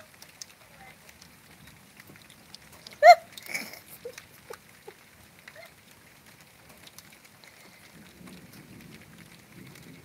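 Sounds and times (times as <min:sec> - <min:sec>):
light rain pattering: 0:00.0 - 0:10.0.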